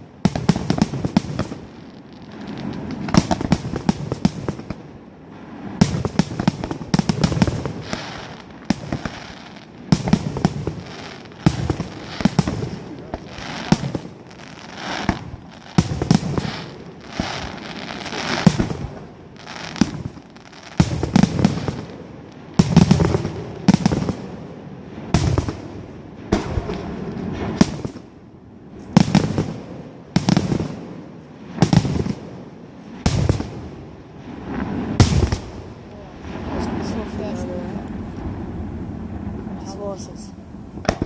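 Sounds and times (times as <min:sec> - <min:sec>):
firework bangs: 0:00.0 - 0:41.0.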